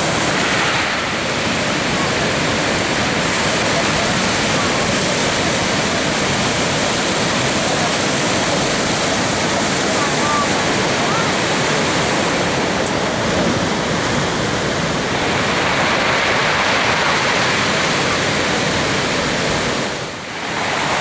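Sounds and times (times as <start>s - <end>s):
breaking ocean surf: 0.0s - 21.0s.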